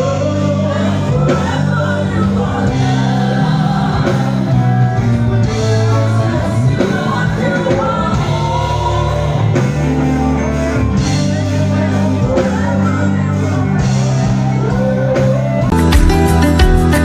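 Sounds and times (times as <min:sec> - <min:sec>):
choir singing: 0:00.0 - 0:15.8
live band playing: 0:00.0 - 0:17.0.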